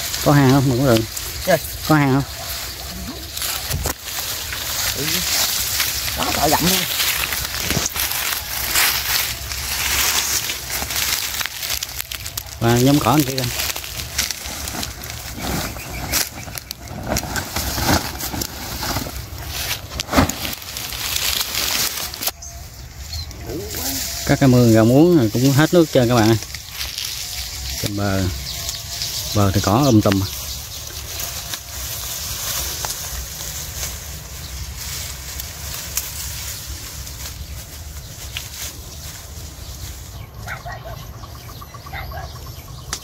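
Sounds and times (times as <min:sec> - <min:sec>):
footsteps crunching through dry grass: 0:00.0 - 0:43.0.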